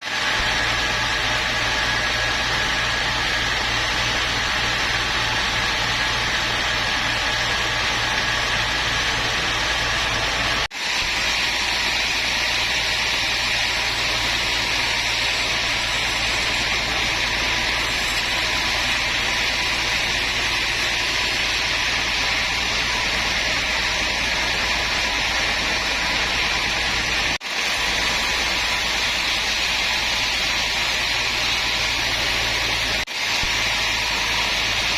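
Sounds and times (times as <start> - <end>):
woodworking machinery humming: 0.0 - 34.9.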